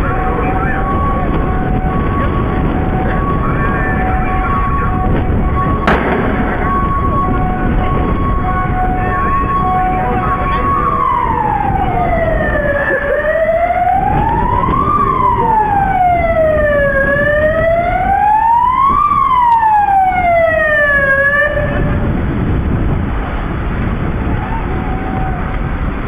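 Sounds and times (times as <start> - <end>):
low rumble: 0.0 - 20.9
emergency vehicle siren wailing: 0.0 - 26.0.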